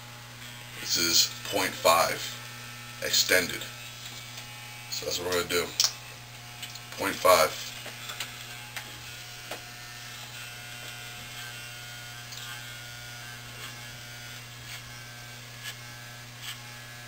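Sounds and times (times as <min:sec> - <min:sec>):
electric hair clippers buzzing: 0:00.0 - 0:17.0.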